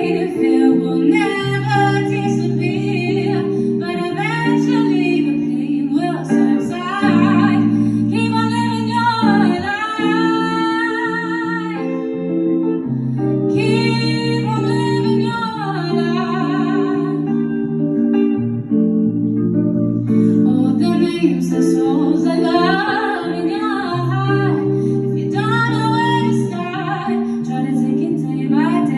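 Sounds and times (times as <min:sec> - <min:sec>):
woman singing with vibrato: 0:00.0 - 0:17.9, 0:20.1 - 0:28.9
guitar chords: 0:00.0 - 0:28.9.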